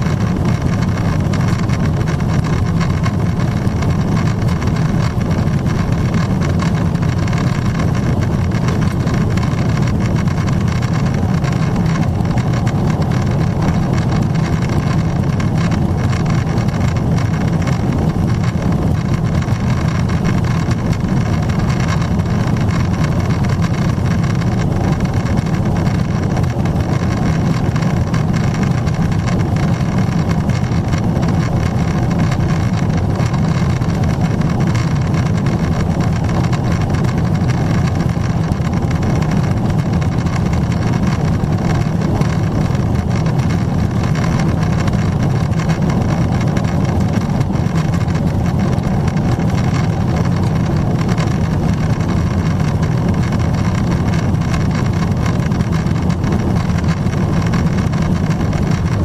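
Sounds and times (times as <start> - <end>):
aircraft cabin engine rumble: 0.0 - 59.0
airflow over fuselage: 0.0 - 59.0.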